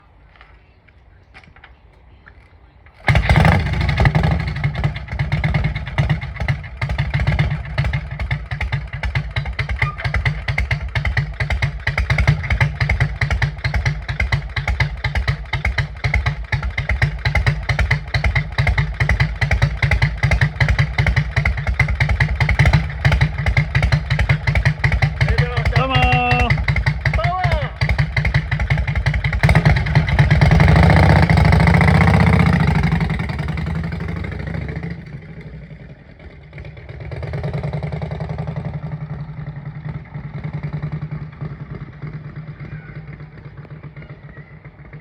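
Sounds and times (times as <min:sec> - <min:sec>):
motorcycle engine idling: 0:03.0 - 0:45.0.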